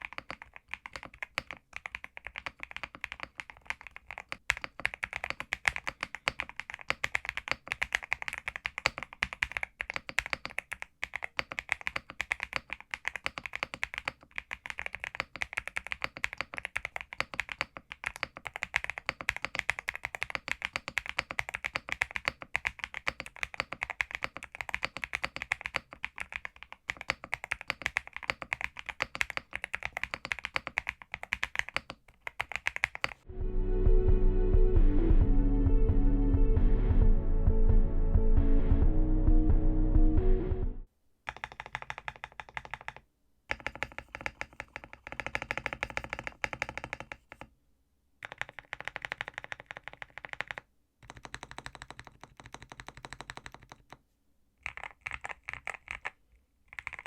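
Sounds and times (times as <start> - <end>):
mechanical keyboard typing: 0.0 - 33.2, 41.3 - 47.5, 48.2 - 54.0, 54.6 - 57.0.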